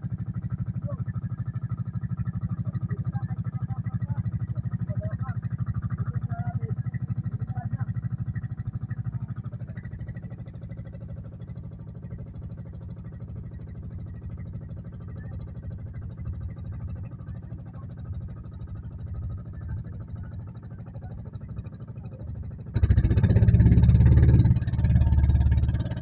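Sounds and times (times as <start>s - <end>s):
boat engine chugging: 0.0s - 26.0s.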